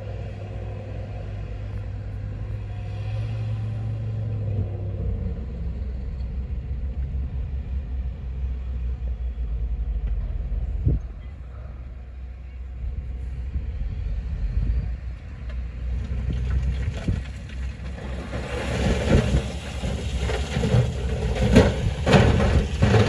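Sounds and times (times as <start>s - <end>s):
diesel engine rumble: 0.0s - 23.0s.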